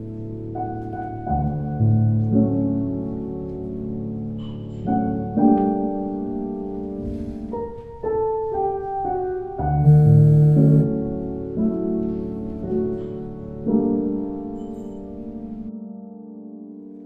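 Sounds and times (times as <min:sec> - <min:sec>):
slow instrumental film music: 0:00.0 - 0:16.7.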